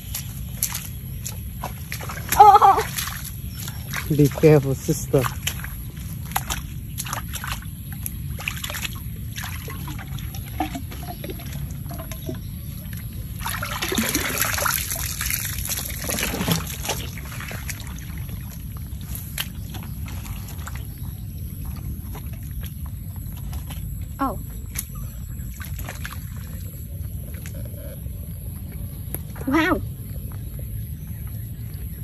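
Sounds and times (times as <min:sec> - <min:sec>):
water splashing onto mud: 0:00.0 - 0:27.6.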